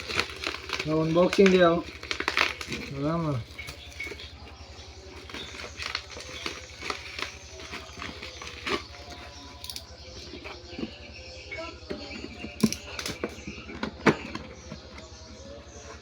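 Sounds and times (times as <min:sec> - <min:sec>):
objects being handled: 0:00.0 - 0:11.1, 0:11.9 - 0:16.0.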